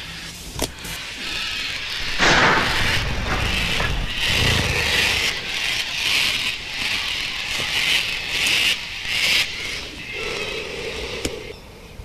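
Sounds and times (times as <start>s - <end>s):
scraping textures: 0.0s - 12.0s.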